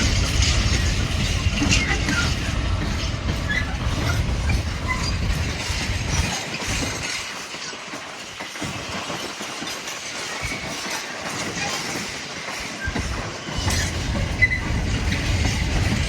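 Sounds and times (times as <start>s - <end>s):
train rumbling on track: 0.0s - 16.0s
wheels squeaking: 0.0s - 16.0s.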